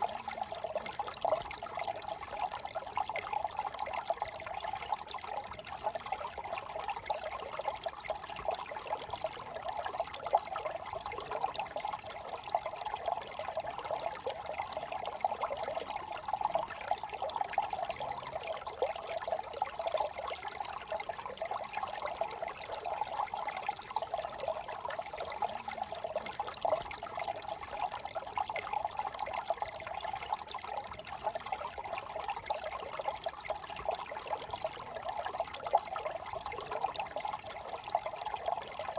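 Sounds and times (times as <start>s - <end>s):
brook trickling: 0.0s - 38.9s.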